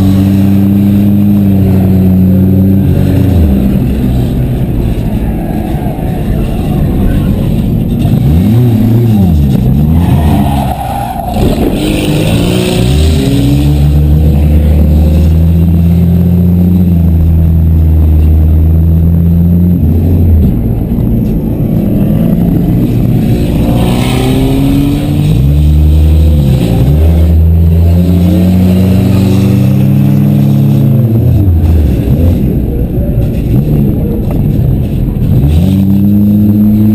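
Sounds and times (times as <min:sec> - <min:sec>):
car engines revving hard: 0:00.0 - 0:36.9.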